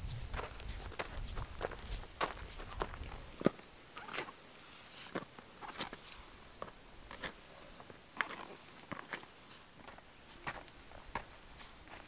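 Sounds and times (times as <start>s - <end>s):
footsteps crunching on sandstone: 0.0s - 4.3s, 4.9s - 12.0s.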